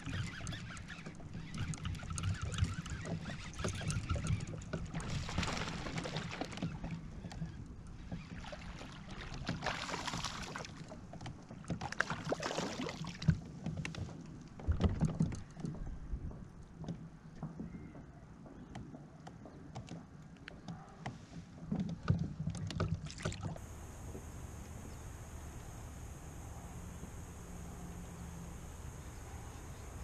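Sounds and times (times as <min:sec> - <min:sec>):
water sloshing around a kayak: 0:00.0 - 0:17.3, 0:21.2 - 0:30.0.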